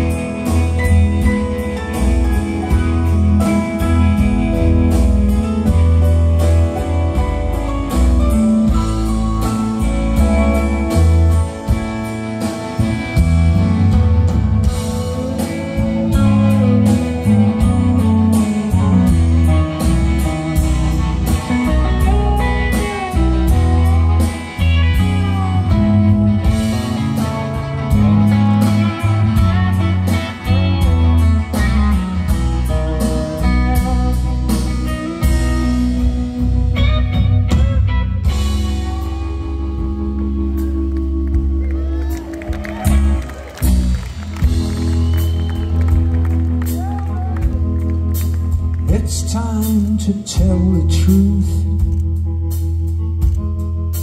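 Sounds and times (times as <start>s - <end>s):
guitar melody with bent notes: 0.0s - 54.0s
rock band playing: 0.0s - 54.0s.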